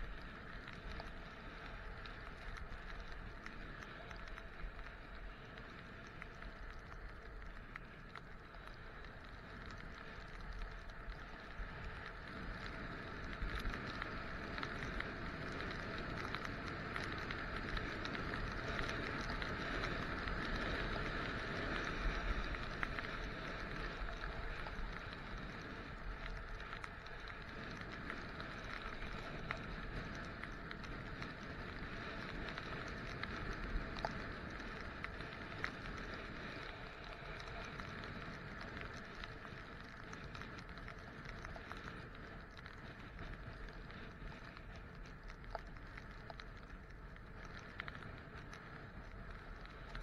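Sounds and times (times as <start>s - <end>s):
skis sliding over snow: 0.0s - 50.0s
wind rumble on microphone: 0.0s - 50.0s.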